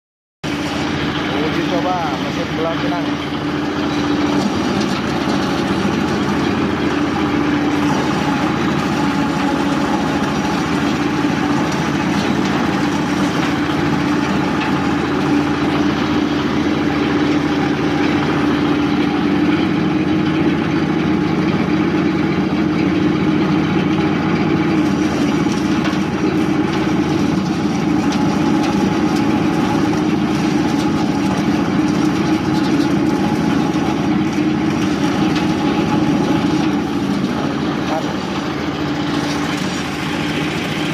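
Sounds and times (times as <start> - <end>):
machine motor droning: 0.5 - 40.9.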